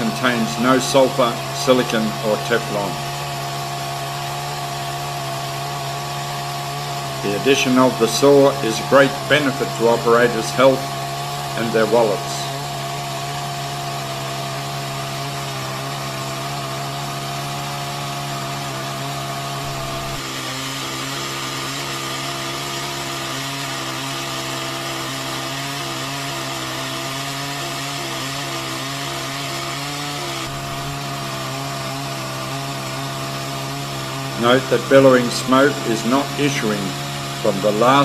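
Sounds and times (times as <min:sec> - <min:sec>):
chainsaw cutting log: 0:00.0 - 0:38.0.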